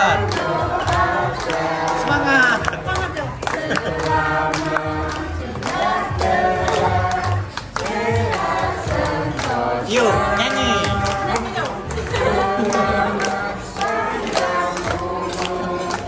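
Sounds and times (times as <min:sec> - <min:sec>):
children and adults singing: 0:00.0 - 0:16.0
hands clapping in time: 0:00.0 - 0:16.0.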